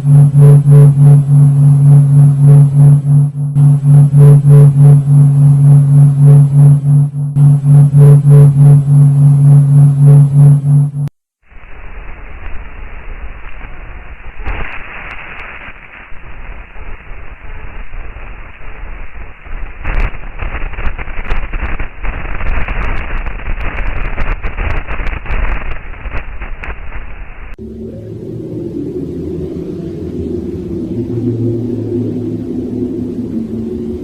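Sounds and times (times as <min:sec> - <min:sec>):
crackling hissing static: 0:00.0 - 0:34.0.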